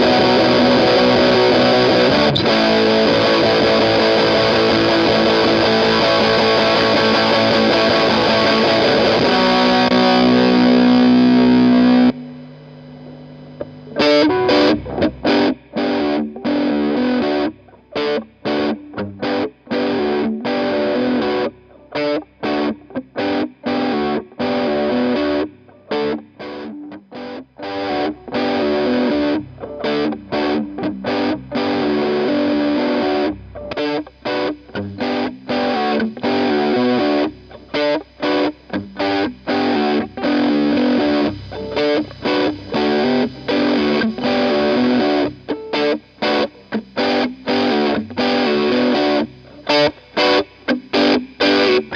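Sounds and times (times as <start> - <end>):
distorted electric guitar chords: 0.0 - 51.9.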